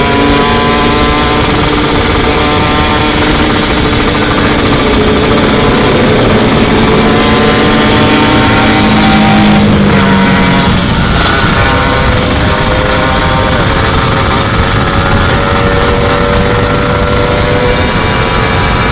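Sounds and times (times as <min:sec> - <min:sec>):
two-stroke motorcycle engine running: 0:00.0 - 0:18.9
wind rushing over microphone: 0:00.0 - 0:18.9.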